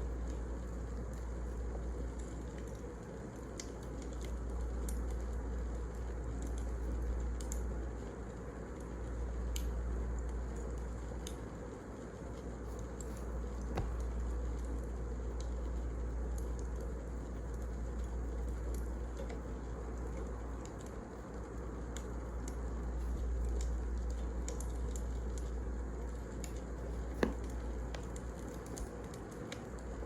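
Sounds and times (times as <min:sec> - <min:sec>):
firewood crackling and popping: 0:00.1 - 0:30.0.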